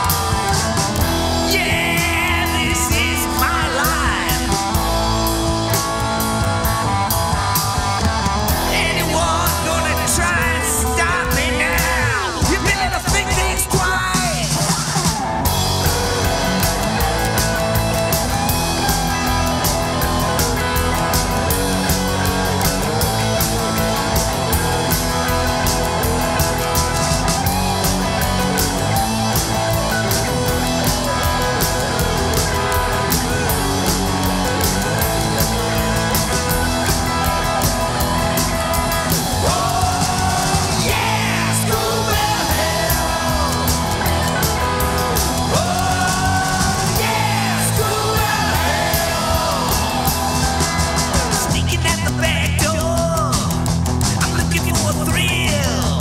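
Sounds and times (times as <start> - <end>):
lead guitar bending notes: 0.0 - 13.5, 14.5 - 52.6
rock band playing: 0.0 - 56.0.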